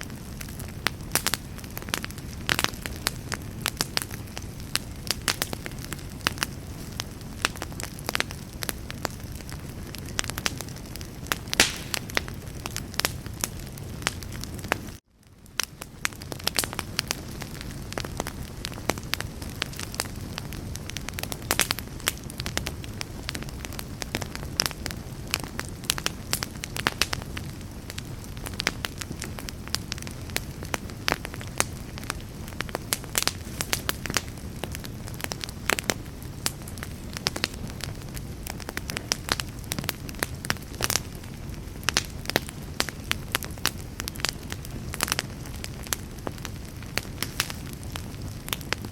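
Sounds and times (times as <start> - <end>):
campfire crackling and popping: 0.0 - 48.9
low rush of flame: 0.1 - 23.8, 26.7 - 48.9.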